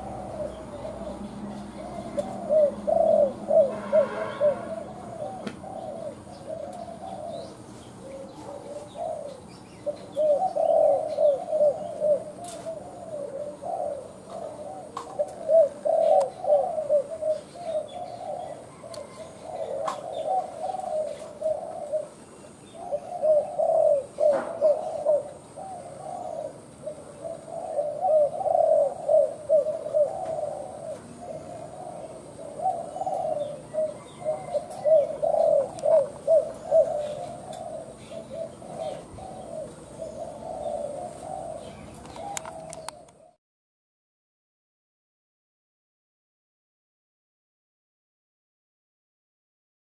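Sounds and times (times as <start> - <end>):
dove cooing: 0.0 - 43.4.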